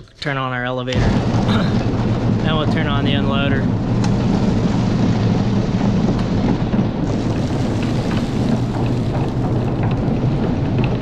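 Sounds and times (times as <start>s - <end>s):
low machine hum: 0.0s - 11.0s
corn rushing down chute: 0.9s - 11.0s.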